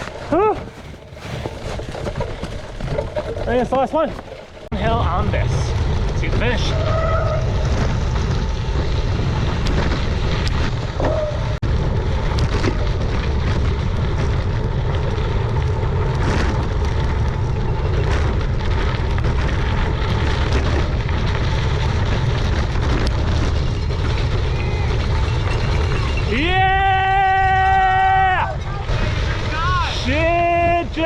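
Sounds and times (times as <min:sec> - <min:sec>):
tyres crackling over gravel: 0:00.0 - 0:31.0
wind rumble on microphone: 0:04.7 - 0:31.0.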